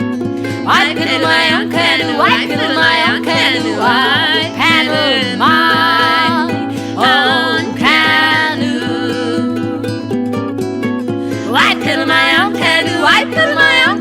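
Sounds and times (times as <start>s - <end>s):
plucked strings: 0.0s - 14.0s.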